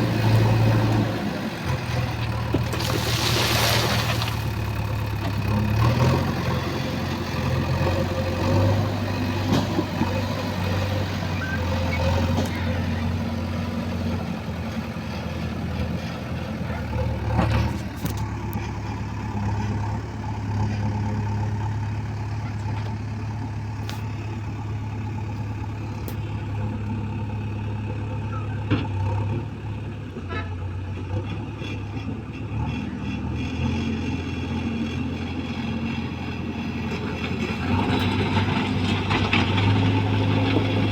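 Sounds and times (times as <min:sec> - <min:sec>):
heavy machine engine humming: 0:00.0 - 0:40.9.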